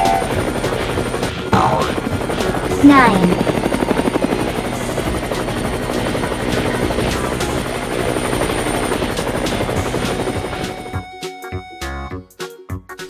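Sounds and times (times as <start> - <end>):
helicopter rotor and engine: 0.0 - 11.8.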